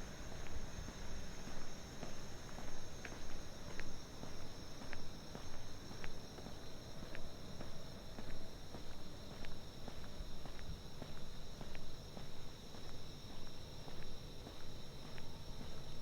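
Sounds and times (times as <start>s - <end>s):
crickets and insects chirping: 0.0s - 16.0s.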